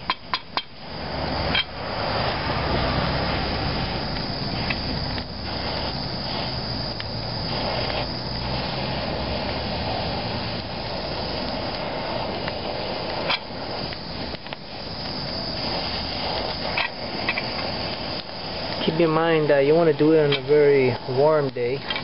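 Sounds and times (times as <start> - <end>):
fire crackles: 0.0 - 22.0
hissing flame: 0.0 - 22.0
low fluttering rumble: 0.8 - 22.0.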